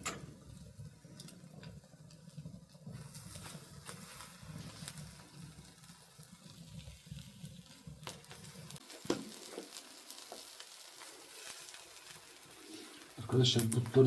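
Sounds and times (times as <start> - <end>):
chicken sizzling: 0.0 - 14.0
wood fire crackling and popping: 0.0 - 14.0.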